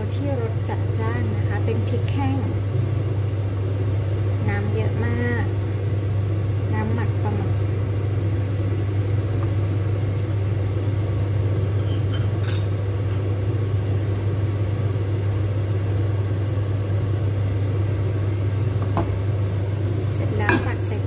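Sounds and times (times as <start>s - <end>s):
kitchen equipment humming: 0.0s - 21.0s.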